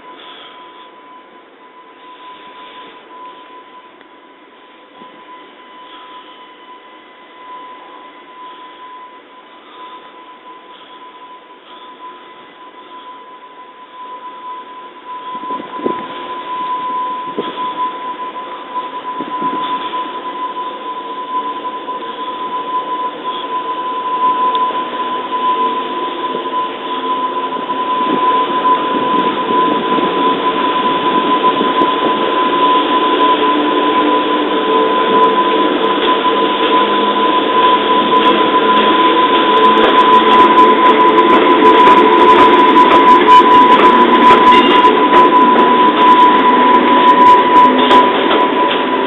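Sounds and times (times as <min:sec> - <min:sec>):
electric train rumbling: 0:00.0 - 0:49.0
high-pitched wheel squeal: 0:05.0 - 0:49.0.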